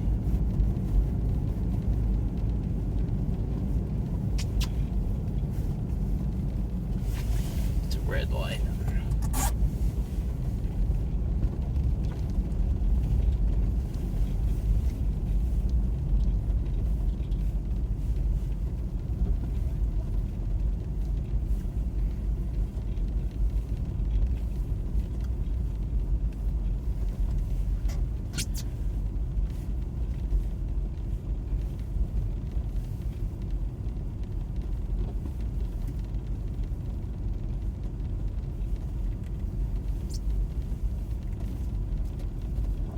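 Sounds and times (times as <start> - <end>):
car cabin rumble: 0.0 - 42.9.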